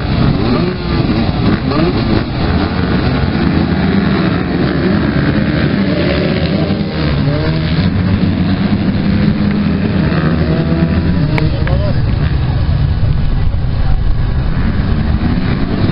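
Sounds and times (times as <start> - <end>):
motocross bikes revving: 0.0 - 15.9.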